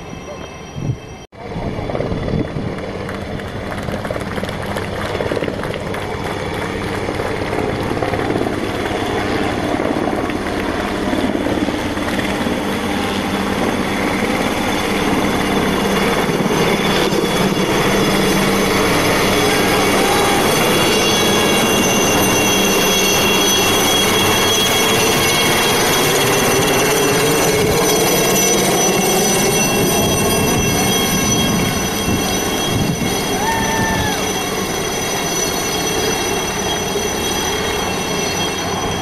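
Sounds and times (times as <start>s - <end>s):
helicopter passing overhead: 0.0s - 39.0s.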